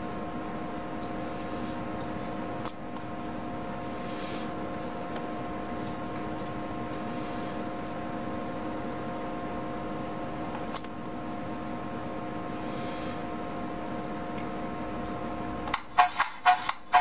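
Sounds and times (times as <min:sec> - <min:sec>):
electrical hum with high tones: 0:00.0 - 0:17.0.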